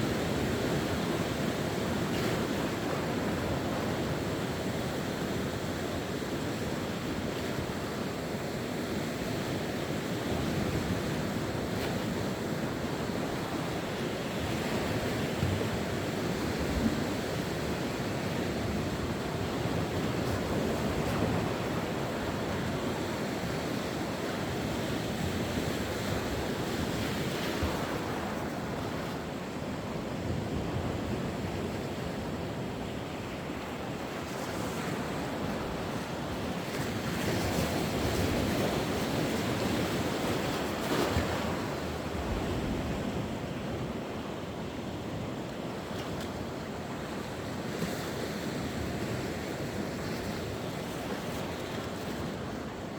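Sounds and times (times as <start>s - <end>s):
sea waves washing ashore: 0.0s - 52.9s.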